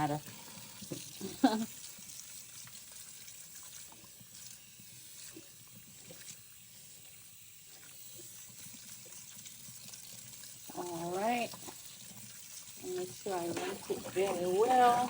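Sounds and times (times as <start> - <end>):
water sounds: 0.0 - 15.0
chicken wings washed by hand: 0.8 - 15.0.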